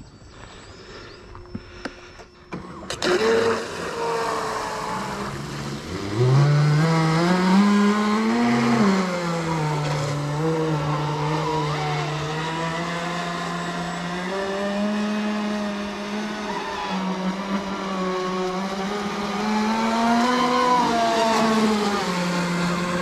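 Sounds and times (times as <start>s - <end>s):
rc aircraft motor whine: 0.2s - 23.0s.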